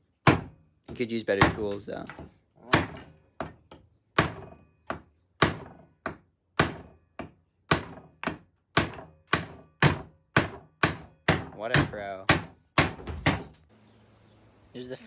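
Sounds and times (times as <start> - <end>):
hammer striking metal: 0.2 - 13.6.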